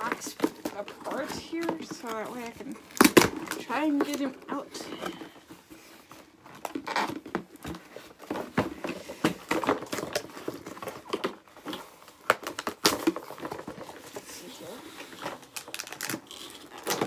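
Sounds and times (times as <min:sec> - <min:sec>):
packaging clicking and crackling: 0:00.0 - 0:17.0.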